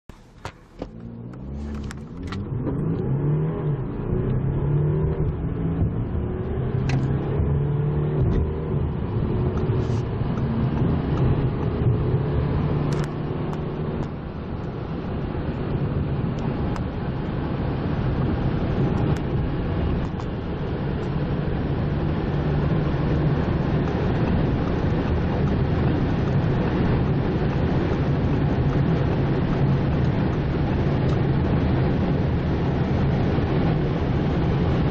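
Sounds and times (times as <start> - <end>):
car engine accelerating hard: 0.1 - 34.9
wind and road noise: 0.1 - 34.9.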